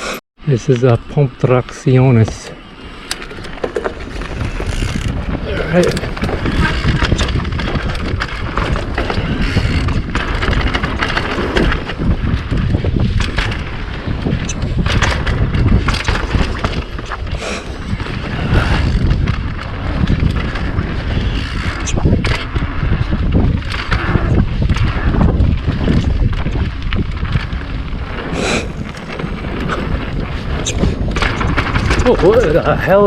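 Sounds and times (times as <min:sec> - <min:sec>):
wind rumble on microphone: 0:00.0 - 0:33.0
bike tyres on dirt trail: 0:00.8 - 0:33.0
bike frame and chain rattle: 0:02.7 - 0:33.0
clicks and knocks over bumps: 0:03.0 - 0:33.0.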